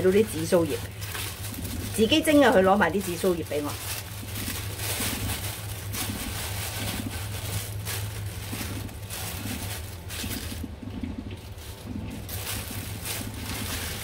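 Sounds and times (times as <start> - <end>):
plastic bag rustling and crinkling: 0.0 - 14.0.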